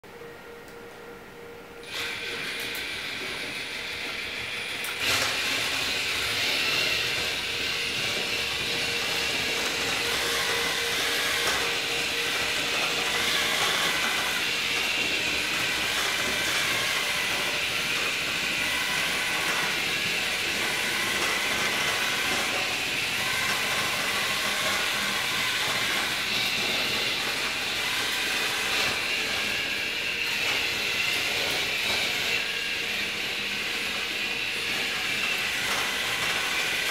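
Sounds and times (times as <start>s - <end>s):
robot motors and tracks whirring: 1.8s - 36.9s.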